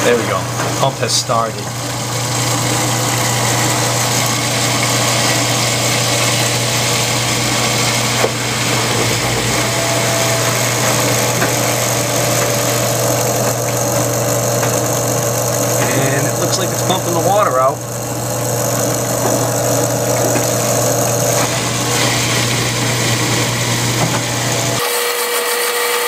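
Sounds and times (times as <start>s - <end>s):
drain pump running: 0.0s - 26.0s
water rushing out: 1.8s - 24.5s.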